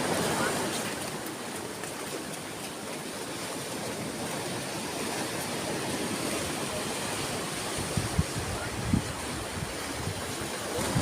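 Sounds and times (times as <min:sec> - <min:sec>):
waves washing ashore: 0:00.0 - 0:11.0.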